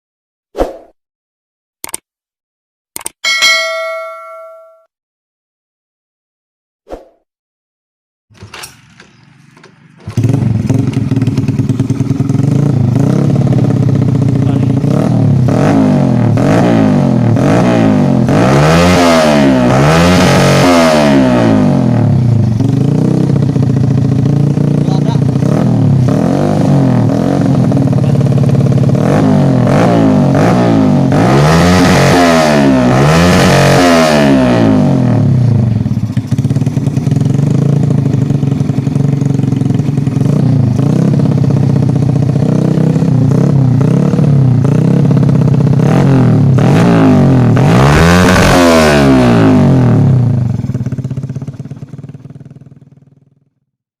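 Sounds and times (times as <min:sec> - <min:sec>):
motorcycle engine idling and revving: 0:08.3 - 0:53.8.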